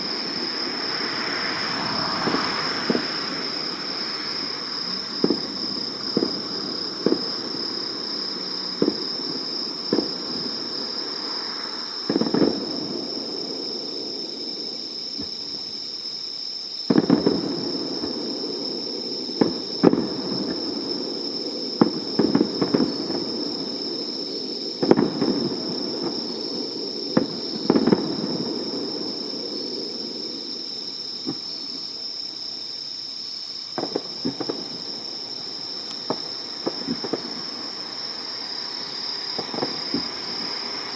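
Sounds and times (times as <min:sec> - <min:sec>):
fireworks bangs: 0:00.0 - 0:15.7, 0:16.9 - 0:32.9, 0:33.7 - 0:40.9.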